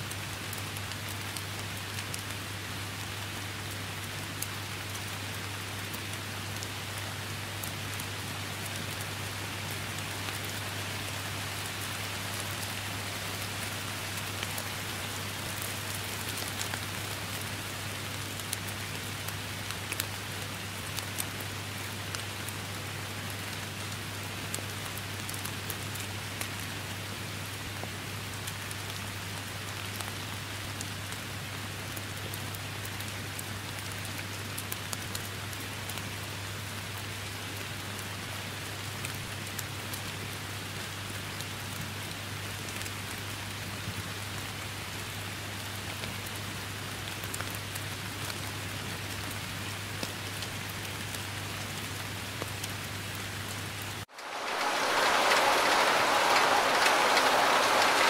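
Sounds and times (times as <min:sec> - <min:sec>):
heavy dense downpour: 0:00.0 - 0:58.0
rain falling: 0:00.0 - 0:58.0.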